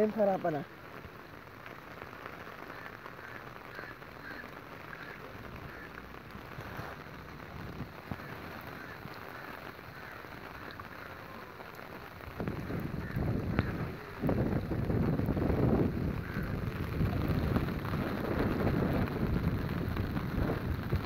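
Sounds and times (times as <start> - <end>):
rain falling on water: 0.0 - 21.0.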